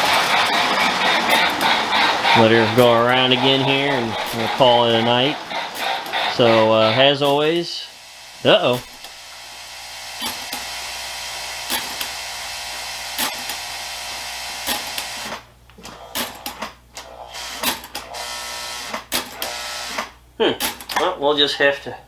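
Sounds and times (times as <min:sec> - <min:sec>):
toy train motor whirring: 0:00.0 - 0:21.0
toy train wheels clicking on track: 0:00.0 - 0:21.1.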